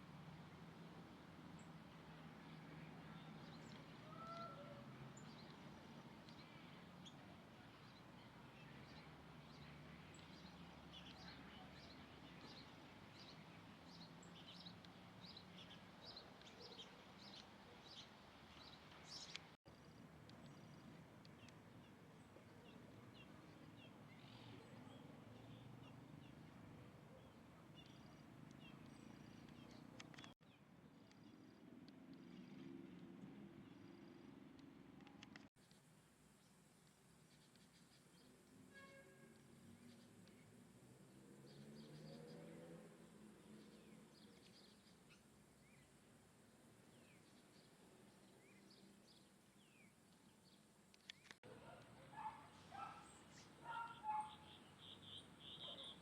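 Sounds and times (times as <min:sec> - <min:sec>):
small birds chirping: 0:01.6 - 0:34.4, 0:43.4 - 0:56.0.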